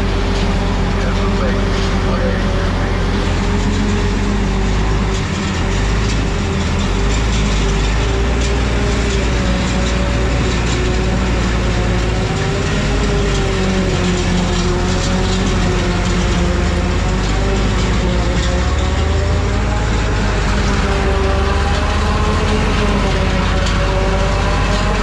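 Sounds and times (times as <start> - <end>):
heavy farm vehicle engine drone: 0.0 - 25.0.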